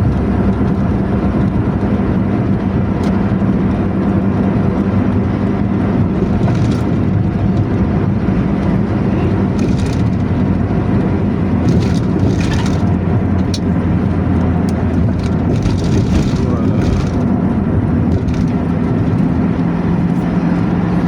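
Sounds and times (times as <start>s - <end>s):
knocks and rattles: 0.0s - 8.7s, 9.4s - 20.2s
bus diesel engine running: 0.0s - 21.0s.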